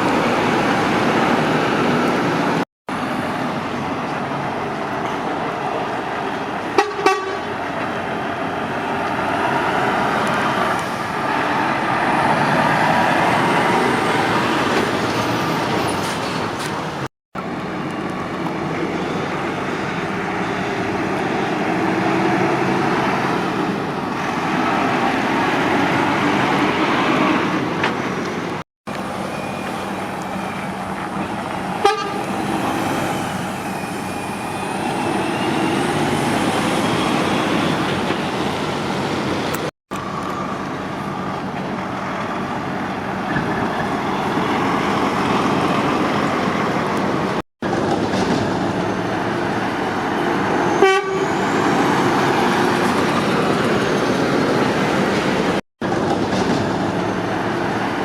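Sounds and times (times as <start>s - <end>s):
motorway traffic noise: 0.0s - 58.0s.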